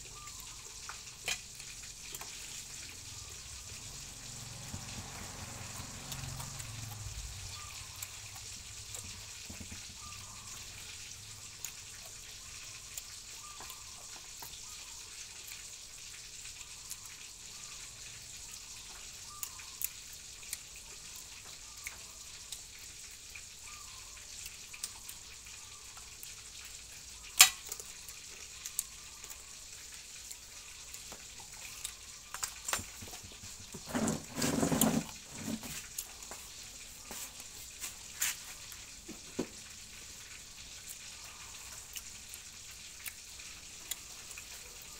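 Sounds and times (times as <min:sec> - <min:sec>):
man chewing food: 0:00.0 - 0:23.6, 0:24.4 - 0:44.9.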